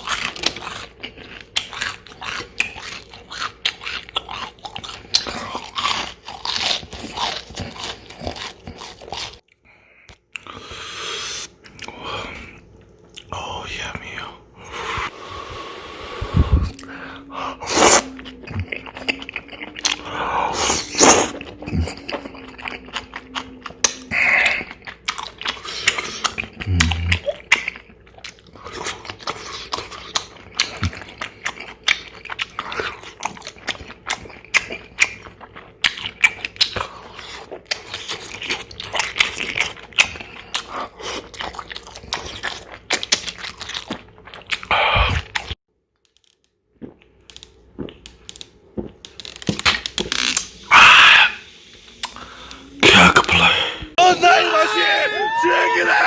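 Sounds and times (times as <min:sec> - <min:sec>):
person chewing with crunches: 0:00.0 - 0:13.3, 0:16.4 - 0:54.0.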